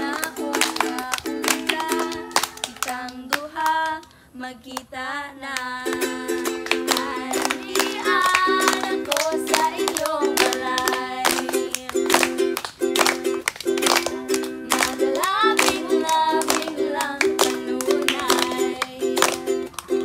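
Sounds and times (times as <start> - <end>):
ukulele strumming: 0.0 - 3.8, 5.6 - 20.0
children clapping: 0.0 - 4.0, 5.9 - 20.0
girls singing: 0.0 - 20.0.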